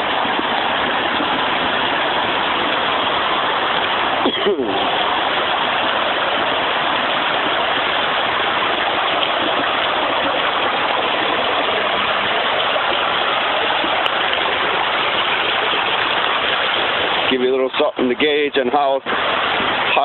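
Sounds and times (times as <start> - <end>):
floodwater running down street: 0.0 - 20.0
water rushing from broken pipe: 0.0 - 20.0.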